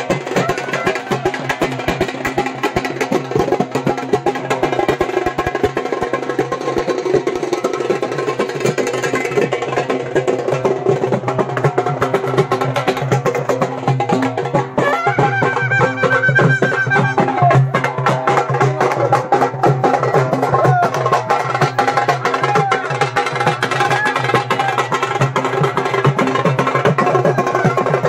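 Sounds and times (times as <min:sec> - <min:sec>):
fast dense percussion: 0:00.0 - 0:28.0.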